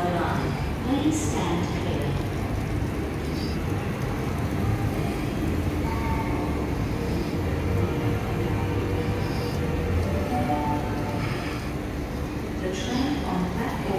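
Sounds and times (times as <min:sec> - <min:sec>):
faint hum: 0:00.0 - 0:13.9
locomotive diesel engine rumbling: 0:00.0 - 0:13.9.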